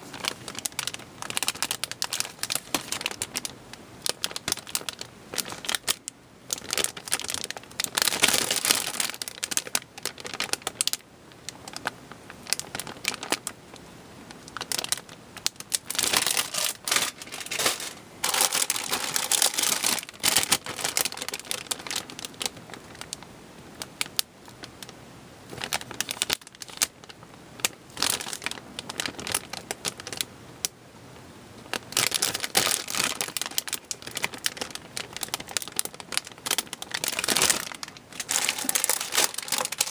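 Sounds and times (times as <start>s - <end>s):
plastic bags crinkling: 0.0s - 13.6s, 14.3s - 23.2s, 25.5s - 30.3s, 31.6s - 39.9s.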